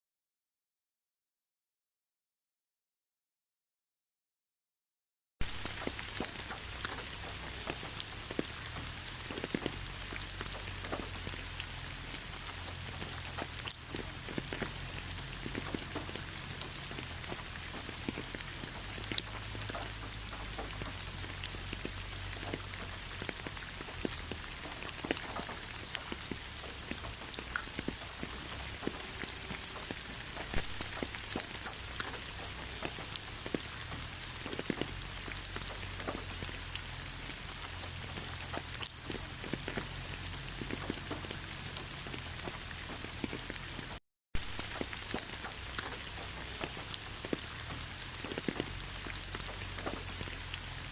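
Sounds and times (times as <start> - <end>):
rain pattering on hard surface: 5.4 - 50.9.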